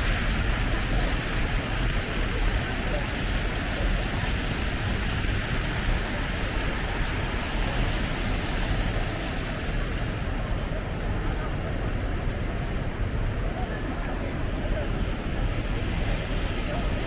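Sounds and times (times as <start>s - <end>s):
city street noise: 0.0s - 17.0s.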